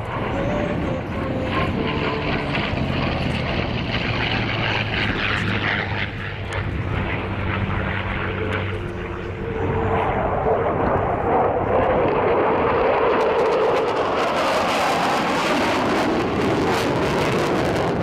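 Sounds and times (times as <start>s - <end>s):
propeller plane droning past: 0.0s - 18.0s.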